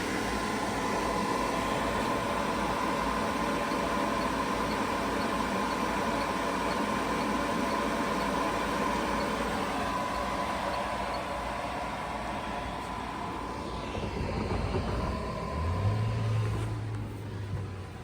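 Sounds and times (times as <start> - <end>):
cooling fans whirring: 0.0 - 18.0.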